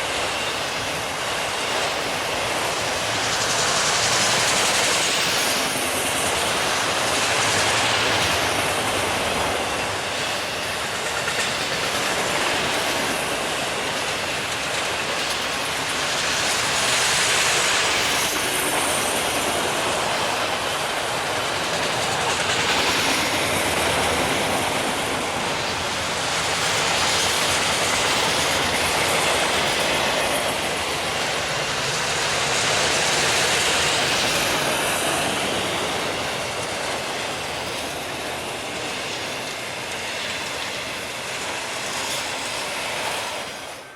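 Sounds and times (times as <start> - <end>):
clickety-clack over rail joints: 0.0 - 43.9
freight train wheels on rails: 0.0 - 43.9.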